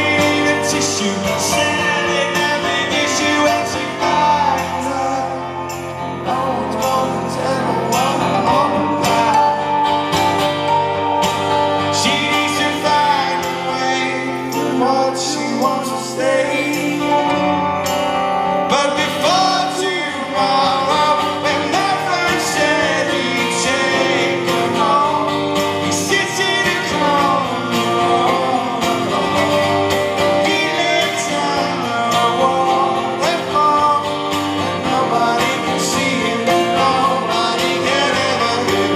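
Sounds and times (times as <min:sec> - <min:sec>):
man singing: 0:00.0 - 0:10.2, 0:11.8 - 0:38.9
live rock band playing: 0:00.0 - 0:38.9.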